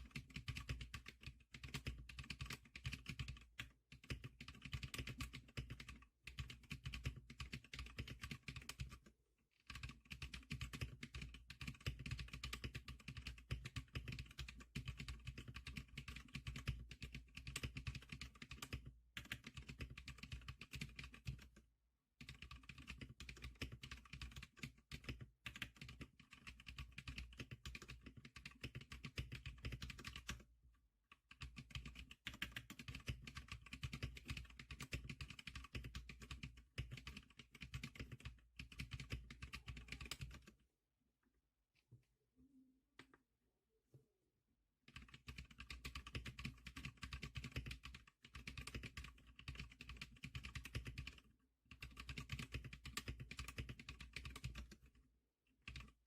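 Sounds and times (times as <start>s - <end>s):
fast keyboard typing: 0.0s - 21.6s, 22.2s - 30.5s, 31.1s - 40.6s, 44.9s - 55.0s, 55.6s - 56.0s.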